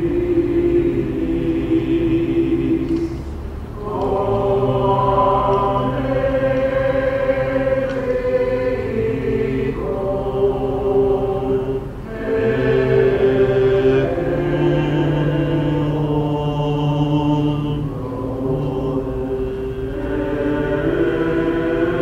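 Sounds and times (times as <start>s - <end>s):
voices chanting long held notes: 0.0s - 22.0s.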